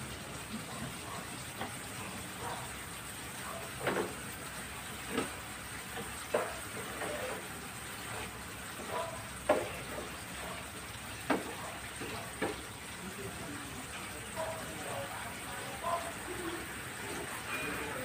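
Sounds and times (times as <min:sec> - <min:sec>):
milk hissing in frying pan: 0:00.0 - 0:18.0.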